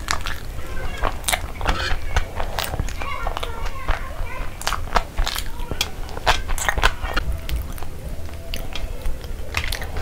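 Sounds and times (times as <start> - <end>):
wet crisp chewing crunches: 0.0 - 10.0.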